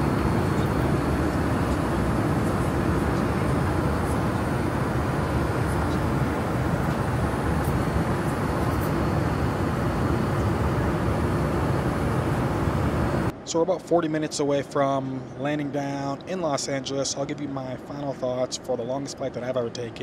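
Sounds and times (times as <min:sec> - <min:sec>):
airliner engines and airflow rumbling: 0:00.0 - 0:20.0.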